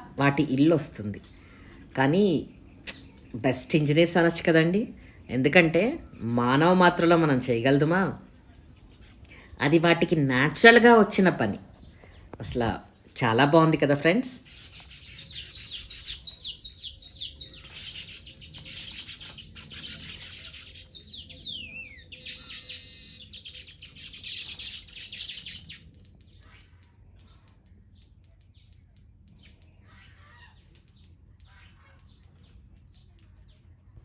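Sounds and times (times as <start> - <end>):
birds chirping and chattering: 0.0 - 34.0.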